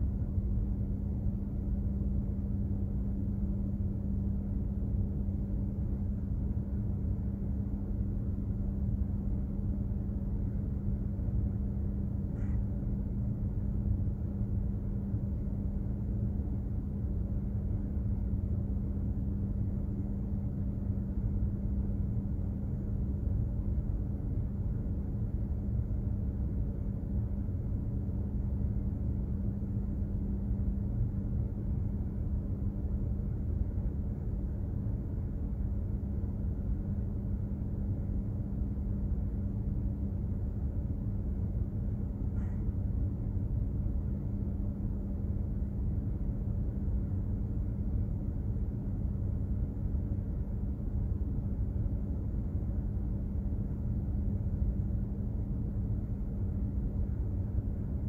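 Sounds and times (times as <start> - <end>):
constant droning hum: 0.0 - 58.0.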